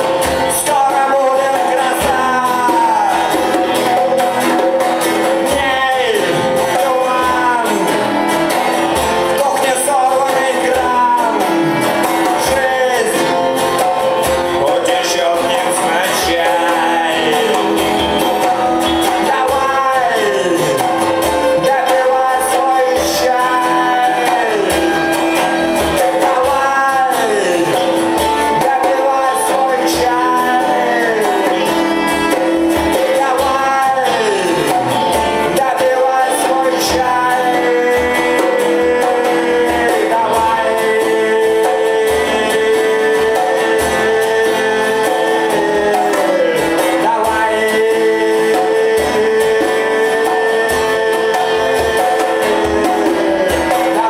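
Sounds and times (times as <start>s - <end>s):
live band playing: 0.0s - 54.0s
man singing: 0.0s - 54.0s.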